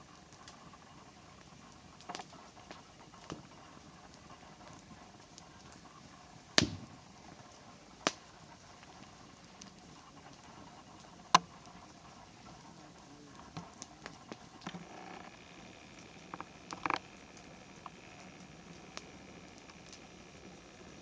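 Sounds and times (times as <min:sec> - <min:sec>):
campfire crackling: 0:00.0 - 0:21.0
sharp fire pops: 0:00.1 - 0:21.0.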